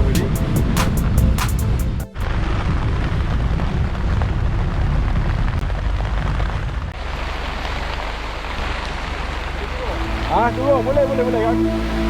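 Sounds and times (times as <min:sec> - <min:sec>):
off-road vehicle rumbling: 0:00.0 - 0:12.0.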